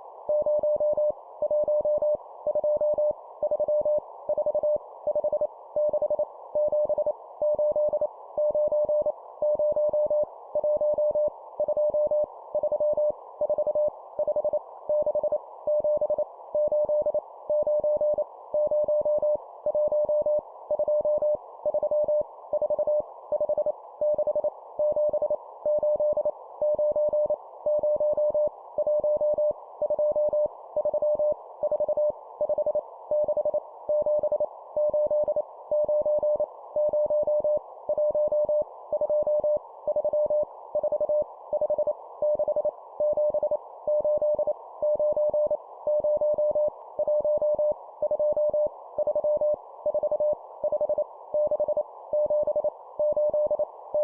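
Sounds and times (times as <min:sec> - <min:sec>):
morse code beeps: 0:05.8 - 0:54.0.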